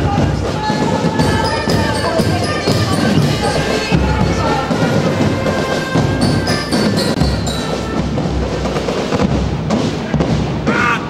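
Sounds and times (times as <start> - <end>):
drums and percussion: 0.0 - 11.0
marching band playing: 0.0 - 11.0.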